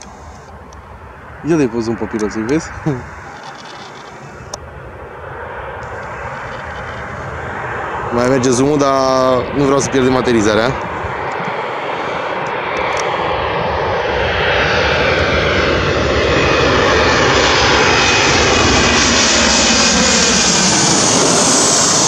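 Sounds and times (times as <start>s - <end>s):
jet airliner engines overhead: 0.0s - 22.0s.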